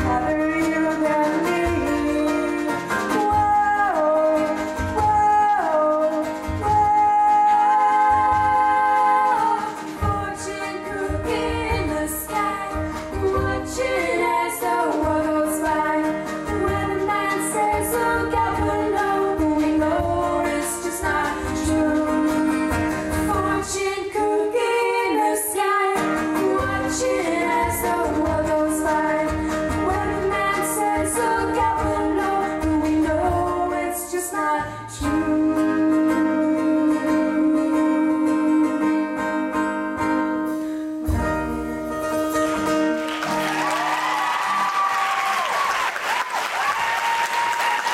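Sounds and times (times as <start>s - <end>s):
pop song with sung vocals: 0.0s - 39.9s.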